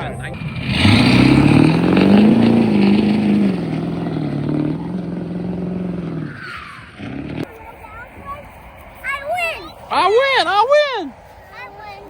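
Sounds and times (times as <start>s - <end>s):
vehicle driving past: 0.0s - 12.0s.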